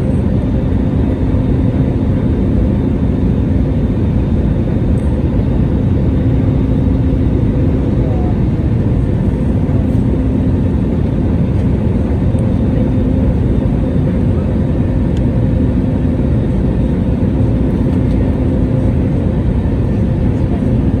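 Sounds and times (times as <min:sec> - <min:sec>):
airliner engines and rushing air: 0:00.0 - 0:21.0.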